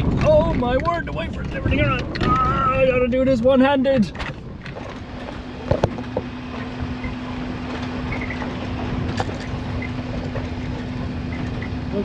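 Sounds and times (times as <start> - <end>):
car engine running: 0.0 - 12.0
rumbling off-road driving noise: 0.0 - 12.0.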